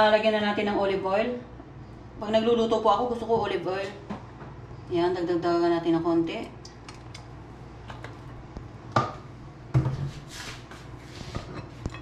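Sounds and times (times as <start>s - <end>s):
low steady hum: 0.0s - 10.2s.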